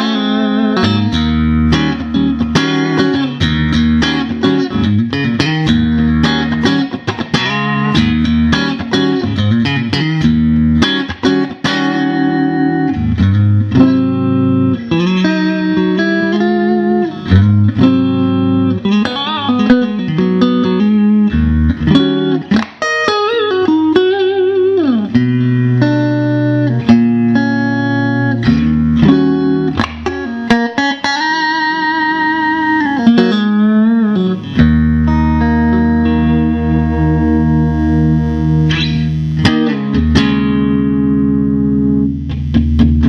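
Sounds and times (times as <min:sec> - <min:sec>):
electric guitar licks: 0:00.0 - 0:43.0.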